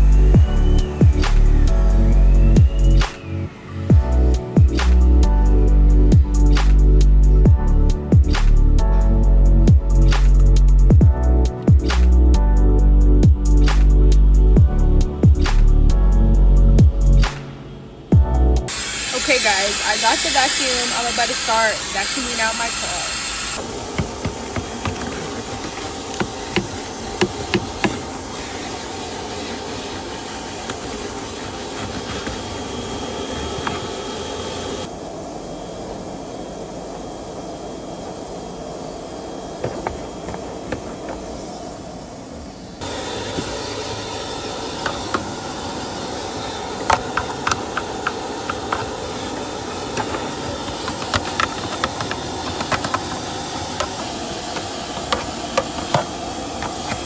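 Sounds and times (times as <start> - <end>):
vacuum hissing: 0.0 - 57.0.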